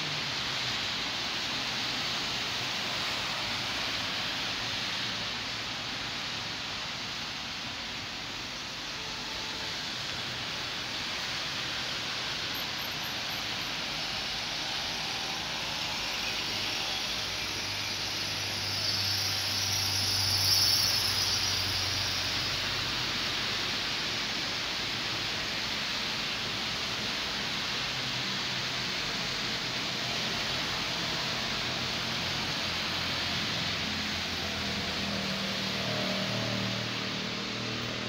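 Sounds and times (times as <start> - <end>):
rain on a wet street: 0.0 - 38.0
vehicle tyres hissing on wet road: 0.0 - 38.0.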